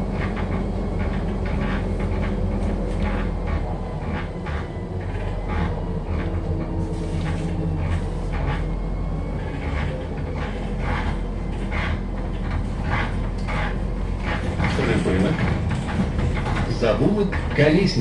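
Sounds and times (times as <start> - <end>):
bus body rattling and knocking: 0.0 - 18.0
bus engine and road drone: 0.0 - 18.0.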